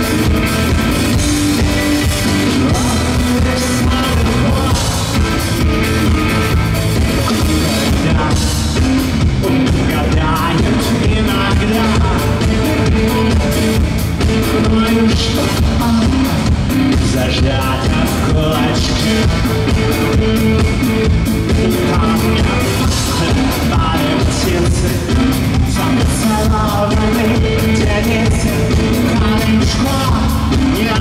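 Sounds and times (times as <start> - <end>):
male singer: 0.0 - 6.3, 7.1 - 31.0
bass guitar: 0.0 - 31.0
drum kit beat: 0.0 - 31.0
electric guitar: 0.0 - 31.0.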